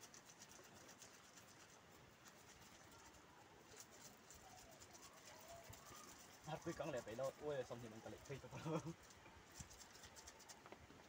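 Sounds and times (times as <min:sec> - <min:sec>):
light high ticking patter: 0:00.0 - 0:10.9.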